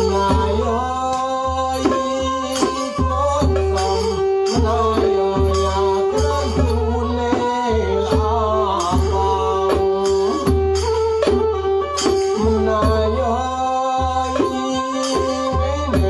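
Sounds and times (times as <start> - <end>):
bowed fiddle melody: 0.0 - 16.0
hand-beaten barrel drums: 0.0 - 16.0.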